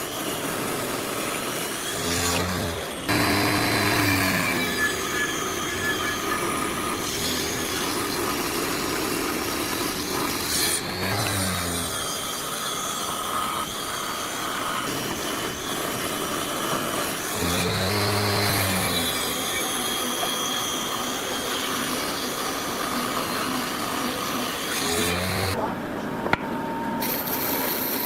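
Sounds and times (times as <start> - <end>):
wood sawing rasp: 0.0 - 25.6.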